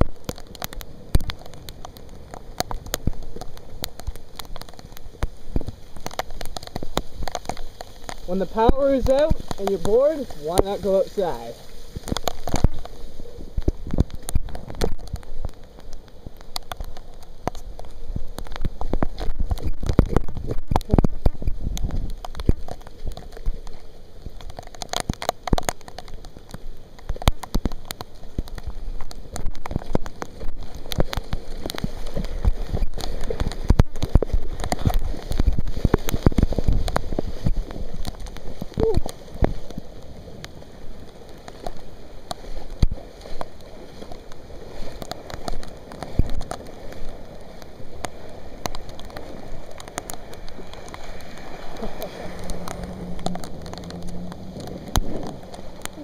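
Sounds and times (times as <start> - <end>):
heavy rain: 0.0 - 56.0
raindrop hits near microphone: 0.0 - 56.0.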